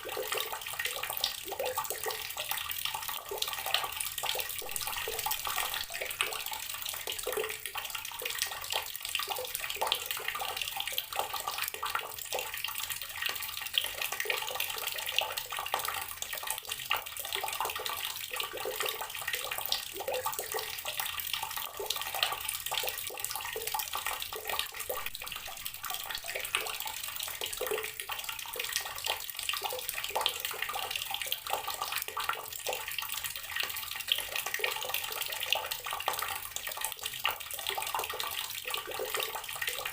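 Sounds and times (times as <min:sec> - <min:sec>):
water tap running onto ground: 0:00.0 - 0:39.9.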